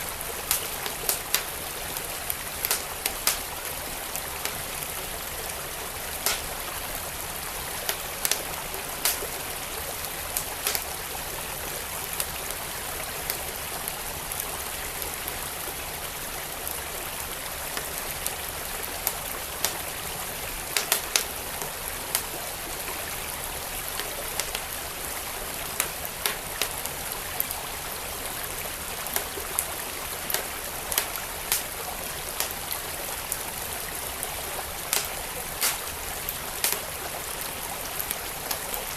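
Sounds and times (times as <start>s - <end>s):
wood fire crackling: 0.0s - 14.0s, 16.3s - 38.9s
stream water flowing: 0.0s - 38.9s.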